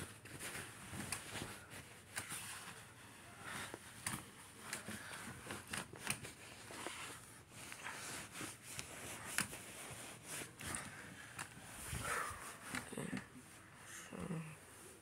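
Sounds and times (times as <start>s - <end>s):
bedding rustling: 0.0s - 15.0s.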